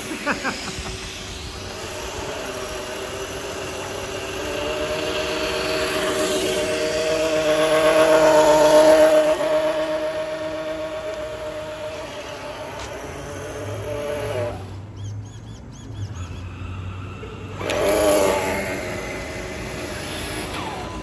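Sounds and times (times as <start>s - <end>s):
toy truck motor whining: 0.0s - 21.0s.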